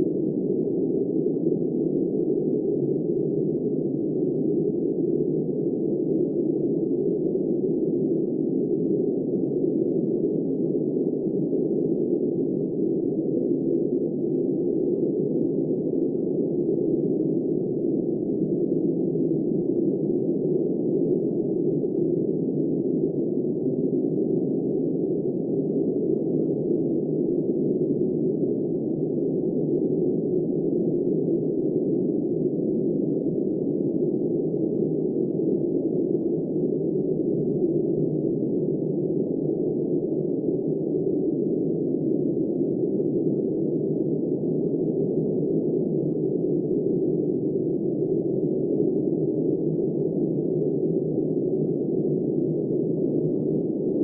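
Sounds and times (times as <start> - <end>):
muffled wind-like noise: 0.0 - 54.0.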